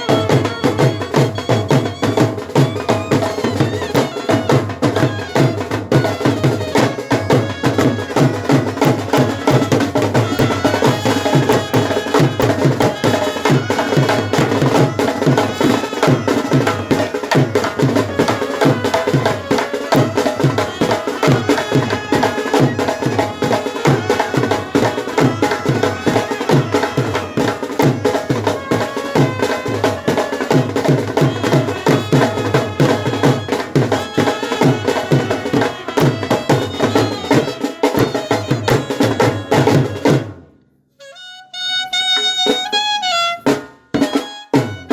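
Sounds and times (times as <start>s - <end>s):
fast drumbeat: 0.0s - 40.4s, 43.4s - 44.9s
brass tones: 3.5s - 40.1s.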